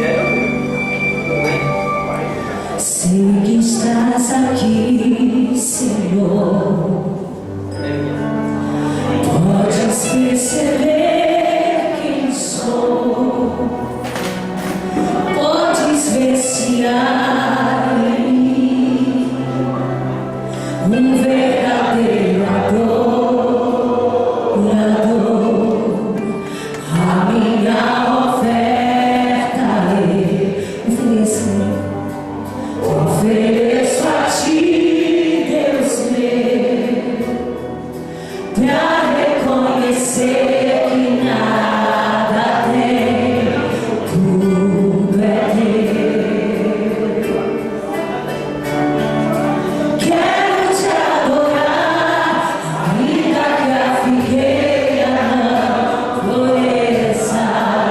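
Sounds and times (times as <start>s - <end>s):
choir singing gospel: 0.0s - 7.6s, 8.4s - 57.9s
instrumental accompaniment: 0.0s - 57.9s.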